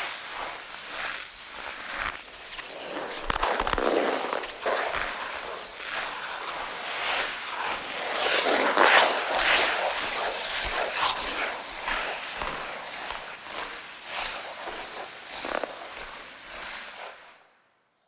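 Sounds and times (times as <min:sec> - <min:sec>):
ice skate blades scraping ice: 0:00.0 - 0:17.5.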